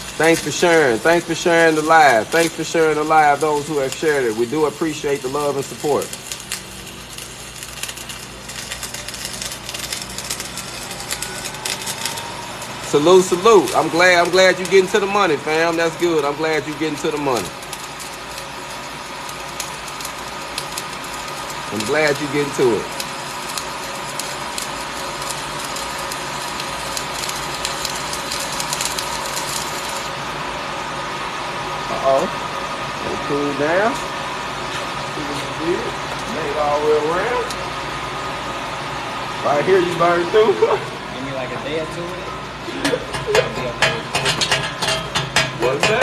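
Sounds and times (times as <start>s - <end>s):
steady machine hum: 0.0s - 46.0s
welding arc crackling: 0.0s - 46.0s.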